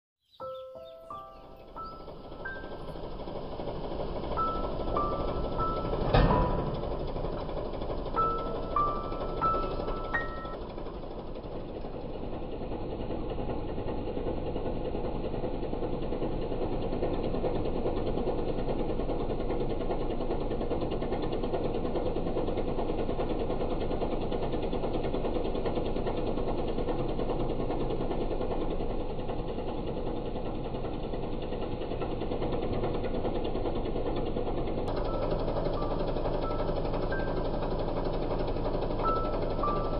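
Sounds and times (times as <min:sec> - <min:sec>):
diesel engine clattering: 0:00.4 - 0:39.9.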